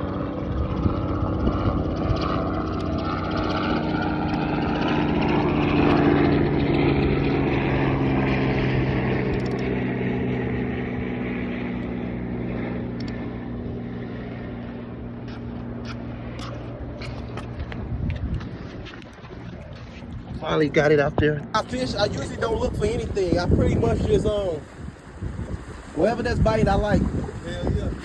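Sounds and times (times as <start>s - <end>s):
passing engine hum: 0.0s - 28.0s.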